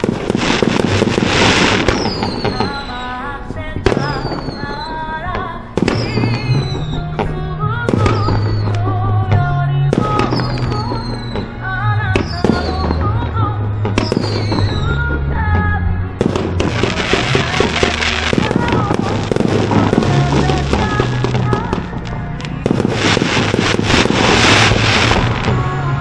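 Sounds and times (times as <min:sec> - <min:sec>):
fireworks bursting: 0:00.0 - 0:15.2, 0:16.2 - 0:26.0
music with singing and bass: 0:00.0 - 0:26.0.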